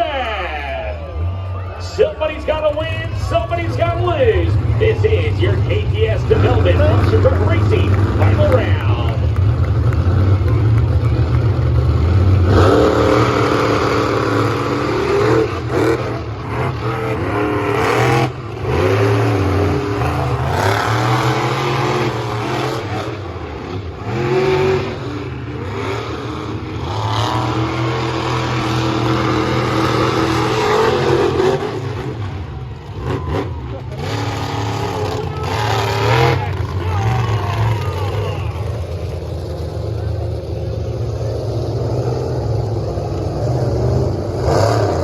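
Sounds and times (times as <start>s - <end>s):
monster truck engines revving: 0.0s - 45.0s.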